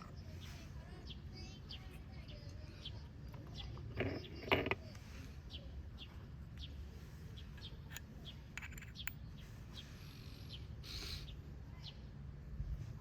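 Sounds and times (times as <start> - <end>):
small bird chirping: 0.0 - 12.1.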